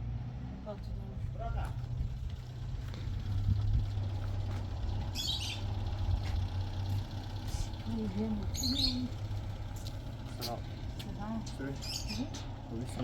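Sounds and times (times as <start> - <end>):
steady low rumble: 0.7 - 13.0.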